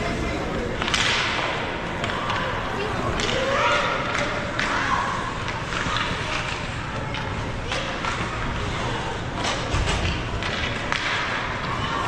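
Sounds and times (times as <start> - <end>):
faint voices: 0.0 - 10.4
echoing rink noise: 0.0 - 12.0
hockey sticks and puck clacking: 0.5 - 8.8, 9.4 - 12.0.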